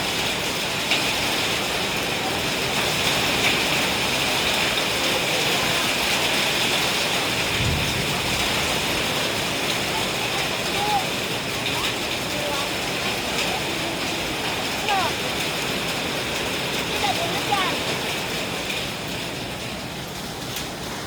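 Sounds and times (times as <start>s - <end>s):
hailstones tapping: 0.0s - 21.0s
heavy rain pouring: 0.0s - 21.0s.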